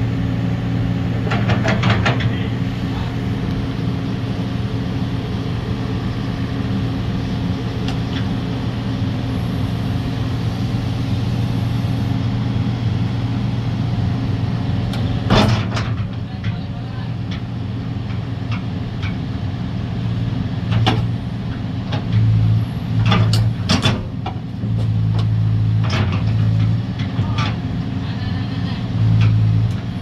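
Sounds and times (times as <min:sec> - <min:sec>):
excavator diesel engines idling: 0:00.0 - 0:30.0.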